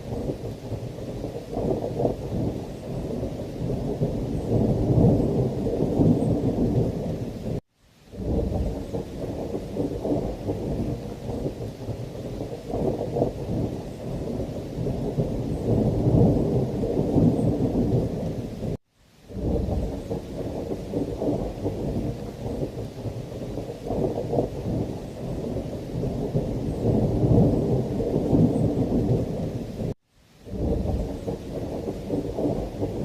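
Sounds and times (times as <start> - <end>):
heavy rain: 0.0 - 33.0
low rolling thunder: 0.0 - 33.0.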